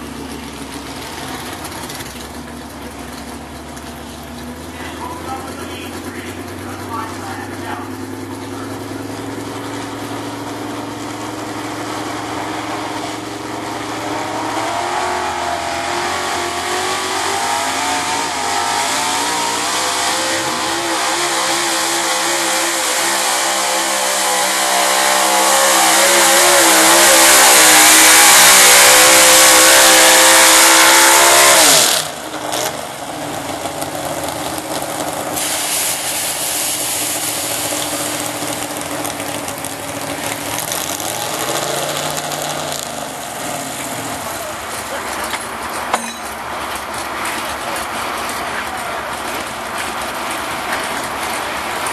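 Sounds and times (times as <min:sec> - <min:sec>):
truck engine revving at full throttle: 0:00.0 - 0:51.9.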